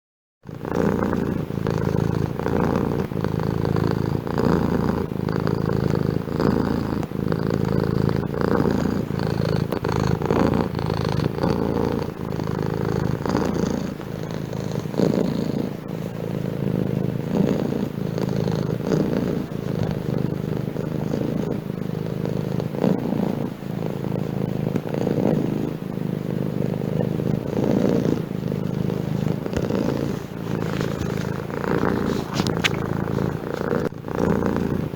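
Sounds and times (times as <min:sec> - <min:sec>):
cat purring: 0:00.4 - 0:34.9.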